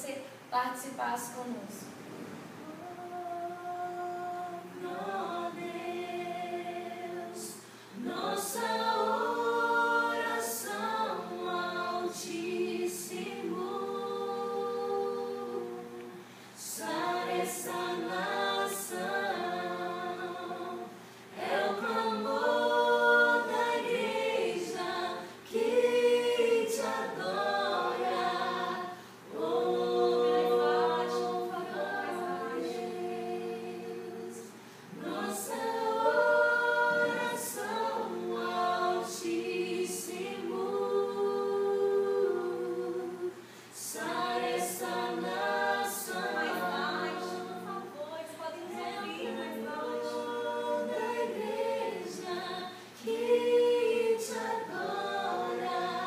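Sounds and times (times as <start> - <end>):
group singing slow worship song: 1.7 - 56.0.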